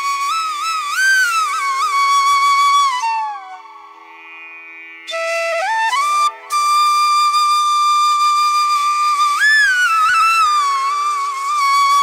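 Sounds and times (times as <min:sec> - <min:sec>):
solo flute melody: 0:00.0 - 0:04.0, 0:05.1 - 0:12.0.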